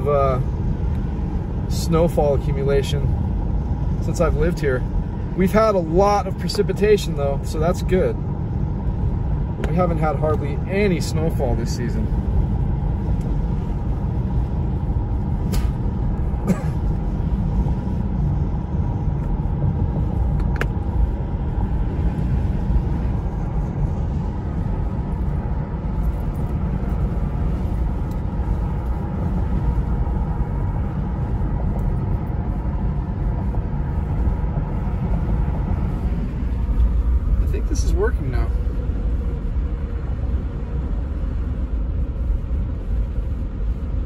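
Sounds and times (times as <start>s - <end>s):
car interior road rumble: 0.0s - 44.0s.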